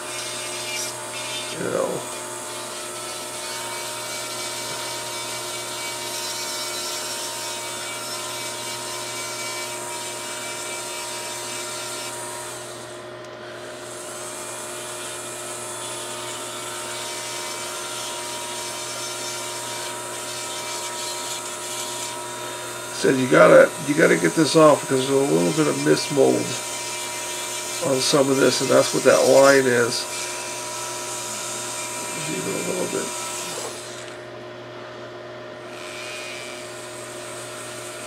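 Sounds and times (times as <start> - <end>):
rotary tool whining: 0.0 - 34.4, 35.6 - 38.0.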